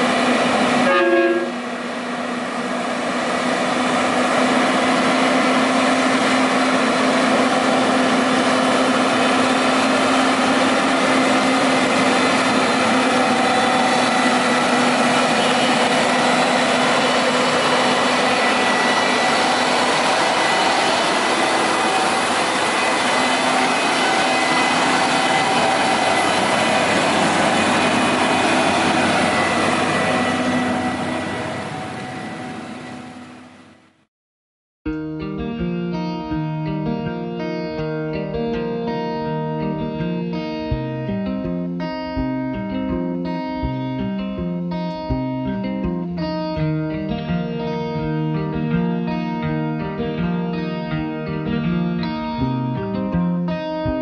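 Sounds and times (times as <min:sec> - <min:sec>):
truck diesel engine running: 0:00.0 - 0:34.1, 0:37.7 - 0:54.0.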